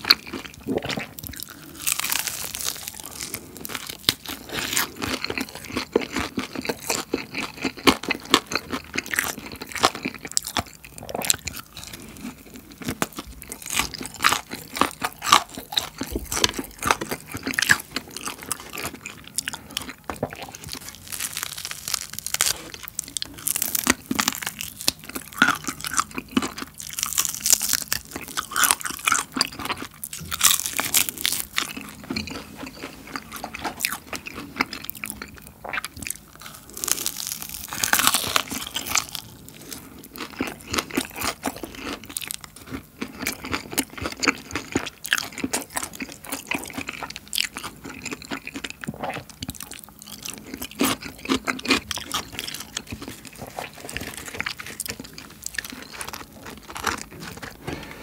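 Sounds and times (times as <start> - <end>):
crunching fried chicken: 0.0 - 58.0.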